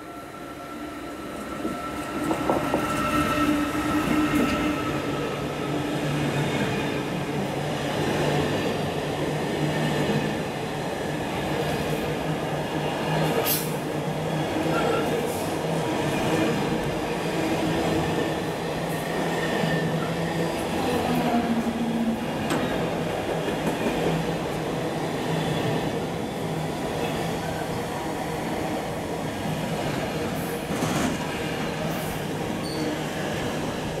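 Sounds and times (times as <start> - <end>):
train wheels rumbling on rails: 1.2 - 34.0.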